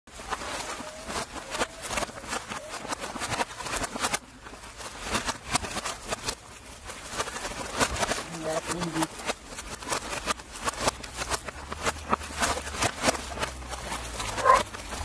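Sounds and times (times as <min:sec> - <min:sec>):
roasted plant heads crackling and knocking: 0:00.1 - 0:15.0.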